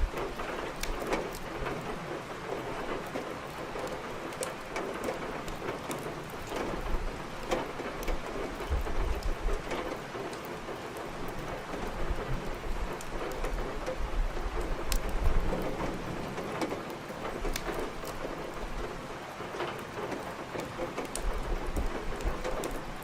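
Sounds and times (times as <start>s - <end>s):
firewood crackling: 0.0s - 23.0s
rain falling: 0.0s - 23.0s.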